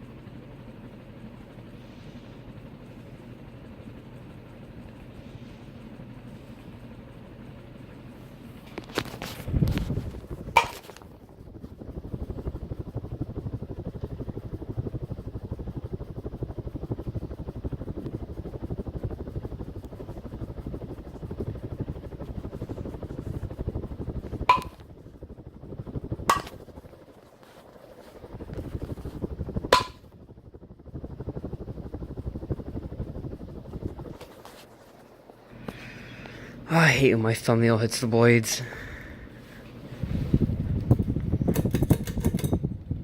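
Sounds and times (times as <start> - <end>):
ceiling fan fluttering rumble: 0.0 - 43.0.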